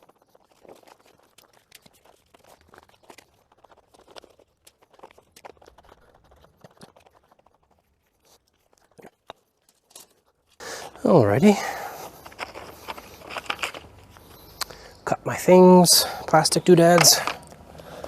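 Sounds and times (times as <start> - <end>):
crunching scrapes: 0.0 - 15.4.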